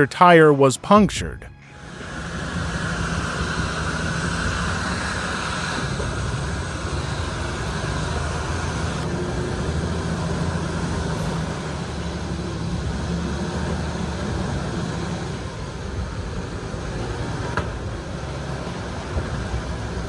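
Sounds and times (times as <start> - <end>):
road and wind noise: 0.0 - 20.0
vehicle engine droning: 1.6 - 20.0.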